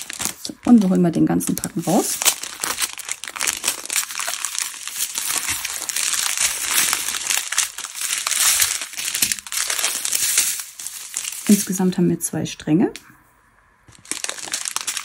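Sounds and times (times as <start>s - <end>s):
plastic bags crinkling: 0.0s - 12.0s, 13.9s - 15.0s.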